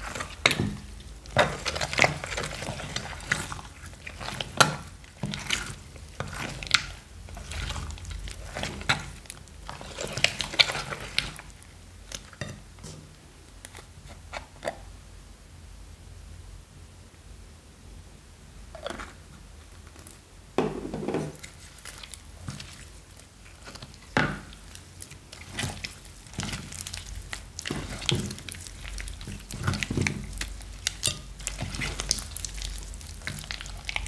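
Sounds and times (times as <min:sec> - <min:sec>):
spatula stirring squelching slime: 0:00.0 - 0:14.9, 0:20.8 - 0:34.0.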